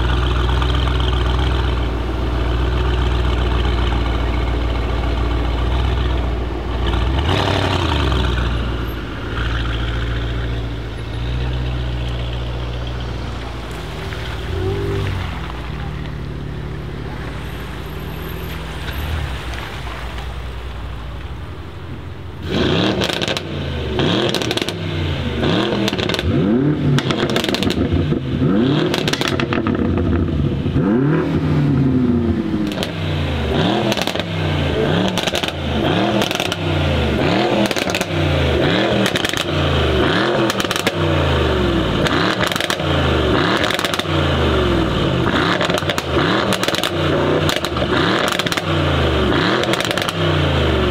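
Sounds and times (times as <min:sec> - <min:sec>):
exhaust crackles and pops: 0:00.0 - 0:17.4, 0:18.5 - 0:31.0, 0:32.6 - 0:50.9
car engine revving: 0:00.0 - 0:50.9
steady engine drone: 0:00.0 - 0:50.9.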